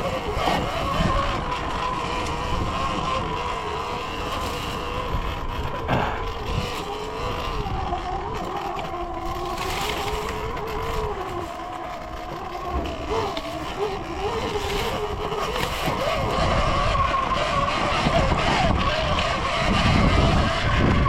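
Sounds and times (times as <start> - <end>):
electric dirt bike motor whining: 0.0 - 21.0.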